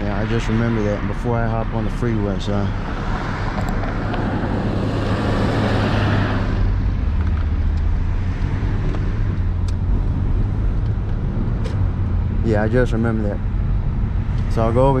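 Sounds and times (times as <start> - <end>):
car engine humming: 0.0 - 15.0
tyre and road noise: 0.0 - 15.0.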